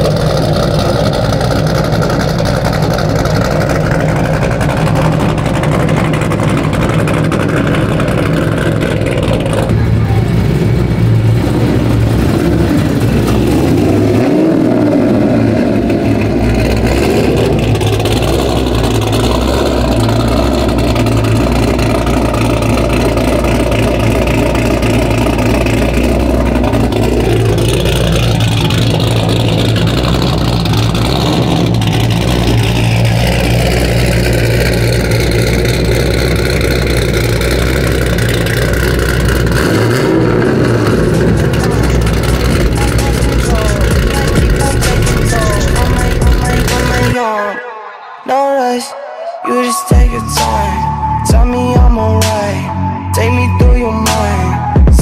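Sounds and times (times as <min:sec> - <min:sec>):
engine revving: 0:00.0 - 0:47.6, 0:49.5 - 0:55.0
truck engines rumbling: 0:00.0 - 0:55.0.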